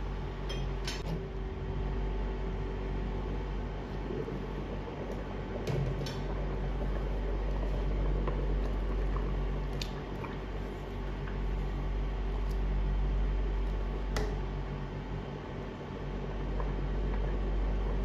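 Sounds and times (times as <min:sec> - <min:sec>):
cooktop humming: 0:00.0 - 0:18.0
rice boiling in water: 0:00.0 - 0:18.0.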